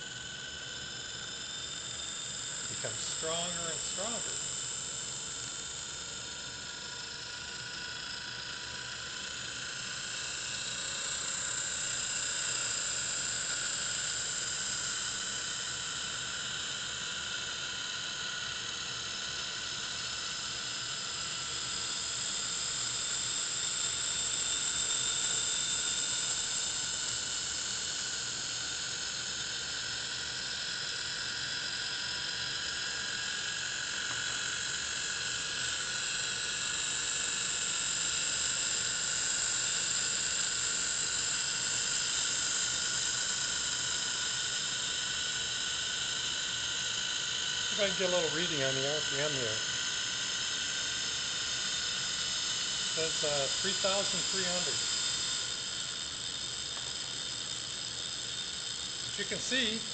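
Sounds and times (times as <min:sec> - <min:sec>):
high-pitched motor whine: 0:00.0 - 0:59.9.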